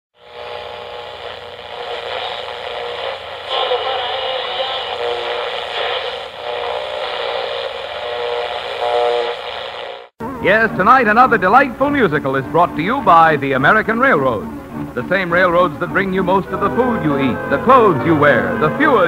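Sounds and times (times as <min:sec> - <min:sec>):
radio static and hum: 0:00.2 - 0:17.4.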